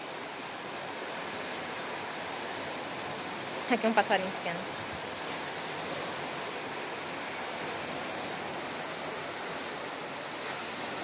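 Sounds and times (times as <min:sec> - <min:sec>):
steady outdoor background rush: 0:00.0 - 0:11.0.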